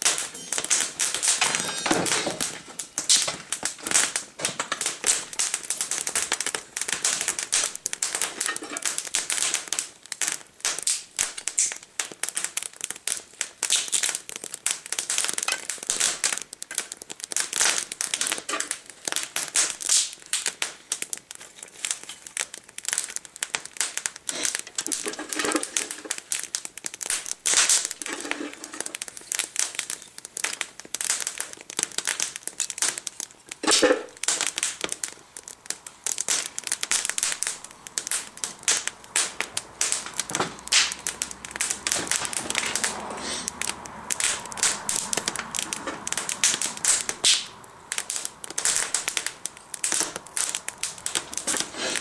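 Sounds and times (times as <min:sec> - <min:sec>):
crinkling and crackling: 0:00.0 - 0:52.0.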